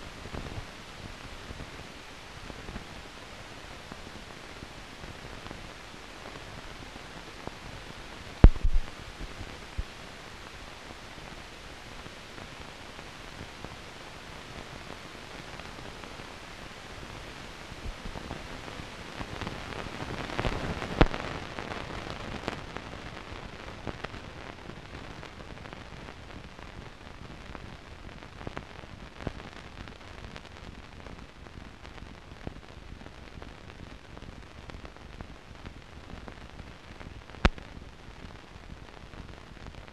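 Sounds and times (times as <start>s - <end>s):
crackles and pops: 0.0s - 39.9s
steady film hiss: 0.0s - 39.9s.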